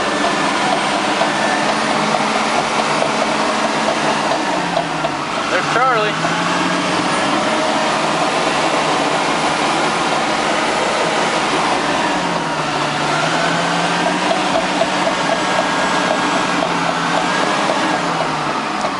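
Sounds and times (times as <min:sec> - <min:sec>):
bulldozer diesel engine running: 0:00.0 - 0:18.9
steel tracks clattering: 0:00.0 - 0:18.9.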